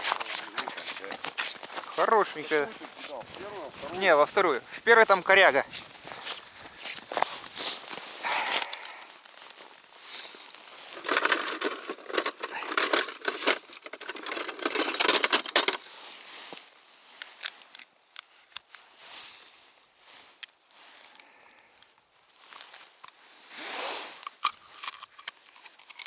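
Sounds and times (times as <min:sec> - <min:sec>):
crackling handling noise: 0:00.0 - 0:26.0.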